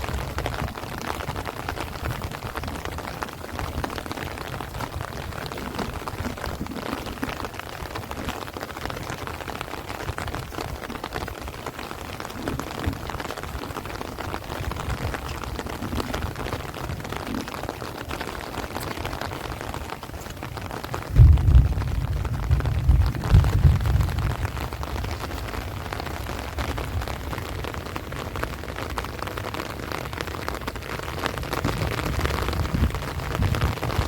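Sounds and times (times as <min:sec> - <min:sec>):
heavy rain on plants: 0:00.0 - 0:34.0
wind rumbling: 0:00.0 - 0:34.0.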